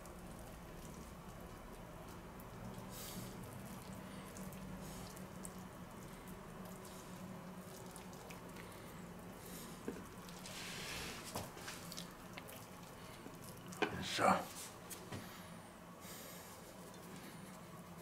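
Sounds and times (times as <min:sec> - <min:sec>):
wet squishing of raw meat: 0:00.0 - 0:15.1, 0:16.3 - 0:18.0.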